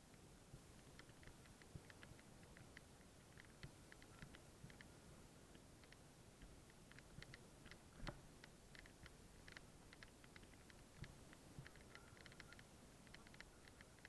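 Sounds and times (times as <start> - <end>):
faint irregular clicking: 0.0 - 14.0.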